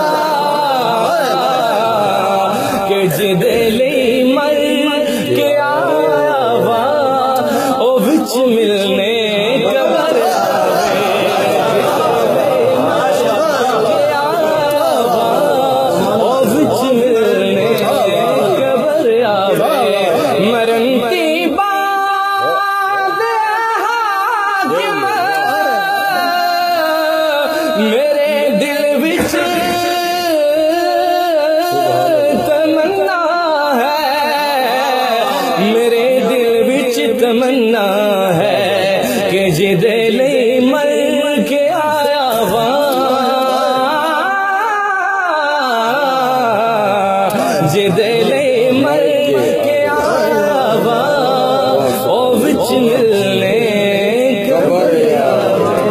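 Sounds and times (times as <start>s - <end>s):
man singing devotional song: 0.0s - 55.9s.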